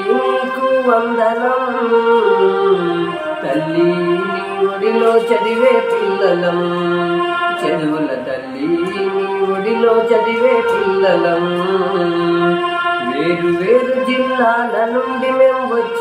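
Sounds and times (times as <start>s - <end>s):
song with sliding held notes: 0.0s - 16.0s.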